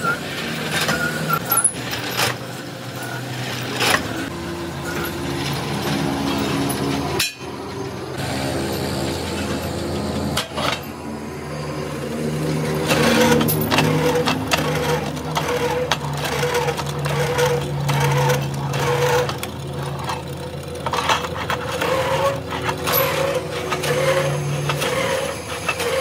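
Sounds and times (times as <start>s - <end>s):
drill bit scraping steel: 0.0s - 7.4s, 8.2s - 26.0s
drill motor hum: 0.0s - 26.0s.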